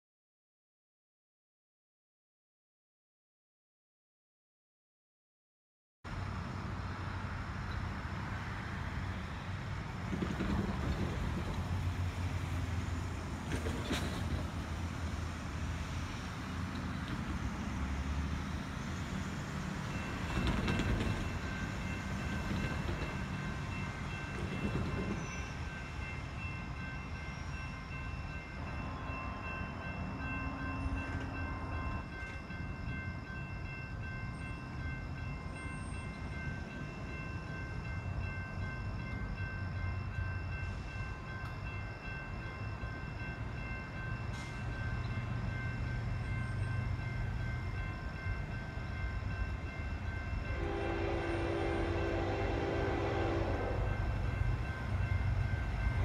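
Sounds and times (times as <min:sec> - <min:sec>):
distant train rumble: 0:06.1 - 0:56.0.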